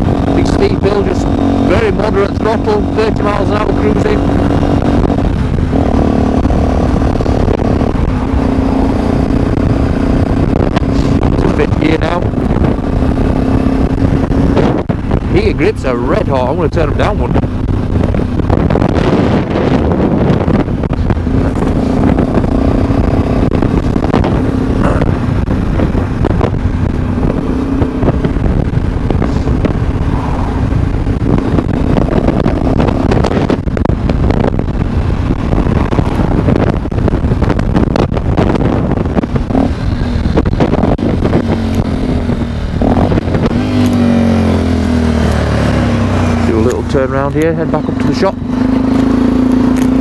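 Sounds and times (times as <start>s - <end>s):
motorcycle engine running steadily: 0.0s - 50.0s.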